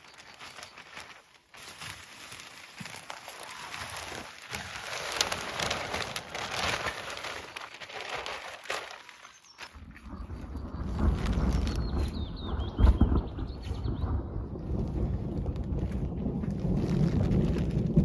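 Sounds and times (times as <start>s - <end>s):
hands rustling in soil: 0.0s - 18.0s.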